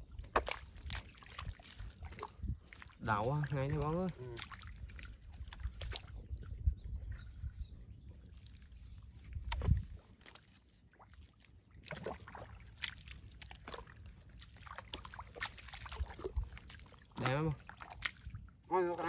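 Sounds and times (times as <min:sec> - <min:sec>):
bare feet squelching through mud: 0:00.0 - 0:06.3, 0:08.4 - 0:19.0.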